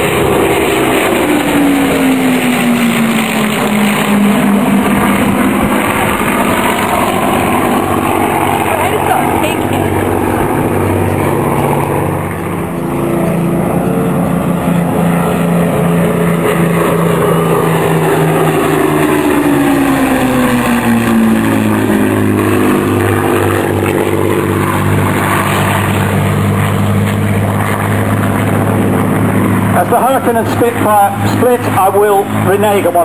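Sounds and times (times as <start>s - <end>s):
propeller engines droning: 0.0s - 33.0s.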